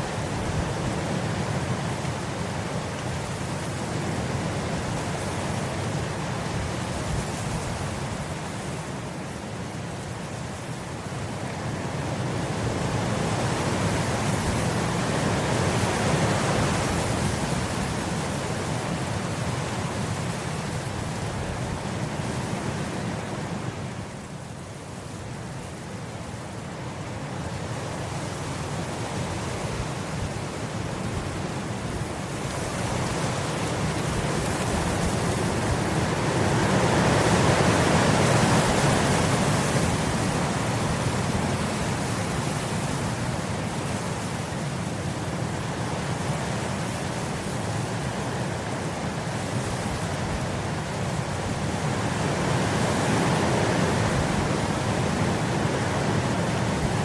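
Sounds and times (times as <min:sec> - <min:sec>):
wind blowing in gusts: 0:00.0 - 0:57.0.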